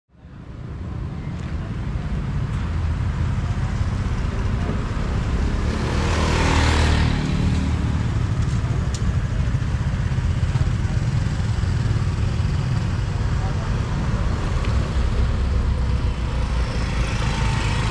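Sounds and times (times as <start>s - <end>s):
motorcycles and cars driving past: 3.0s - 17.9s.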